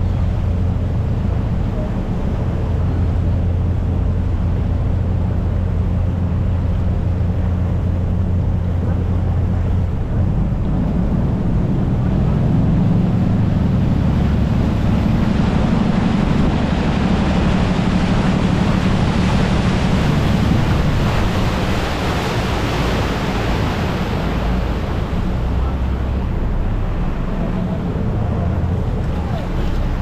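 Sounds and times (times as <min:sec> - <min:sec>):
boat diesel engine running: 0:00.0 - 0:30.0
rushing water: 0:00.0 - 0:30.0
wind: 0:00.0 - 0:30.0.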